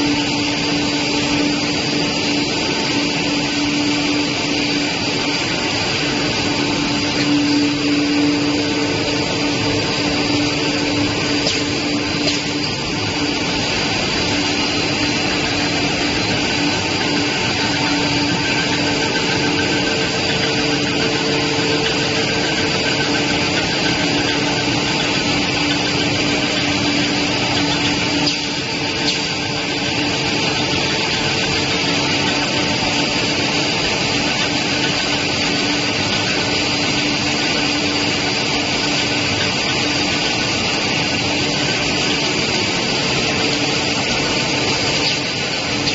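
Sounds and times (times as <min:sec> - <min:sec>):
constant low hum: 0:00.0 - 0:45.9
high whine: 0:00.0 - 0:45.9
machine whirring: 0:00.0 - 0:45.9.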